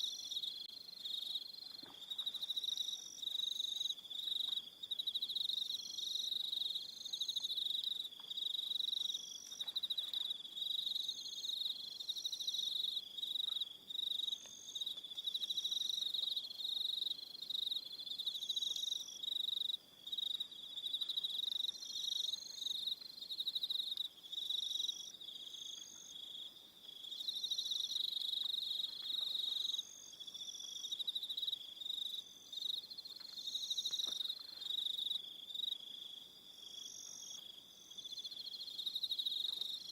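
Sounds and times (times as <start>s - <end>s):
crickets chirping in phrases: 0.0s - 39.9s
crickets trilling: 0.0s - 39.9s.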